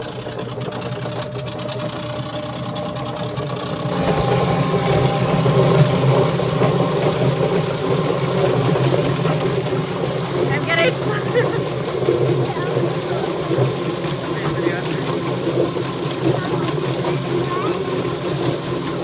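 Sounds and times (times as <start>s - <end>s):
chicken plucker motor hum and rattle: 0.0s - 19.0s.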